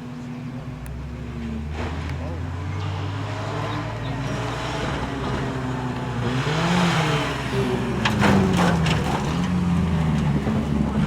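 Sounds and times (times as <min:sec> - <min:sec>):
truck engine revving: 0:00.6 - 0:11.0.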